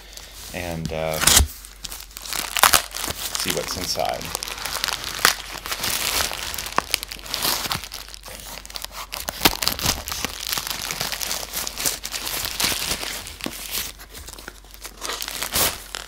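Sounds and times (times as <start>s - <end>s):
plastic bag crinkling and tearing: 0.7s - 16.0s.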